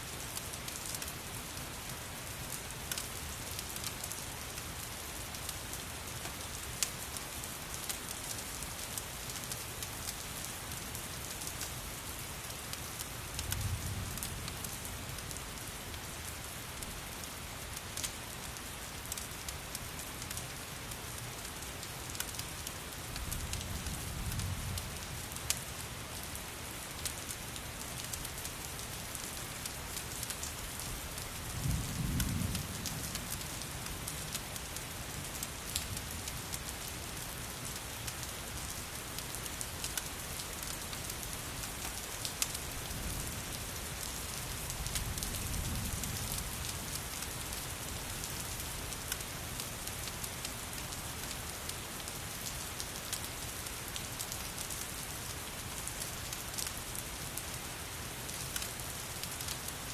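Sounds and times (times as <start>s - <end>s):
steady rain: 0.0s - 59.9s
wood fire crackling: 0.3s - 59.9s.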